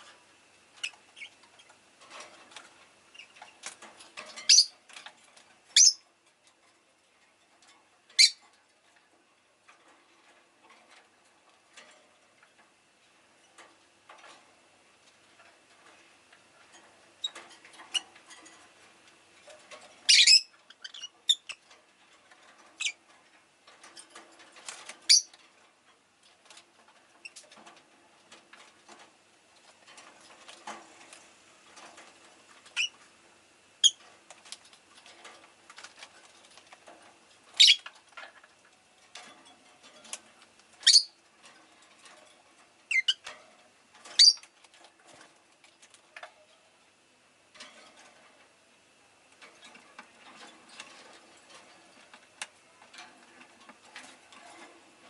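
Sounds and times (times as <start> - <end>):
soft ticks and scratches: 0.0 - 55.0.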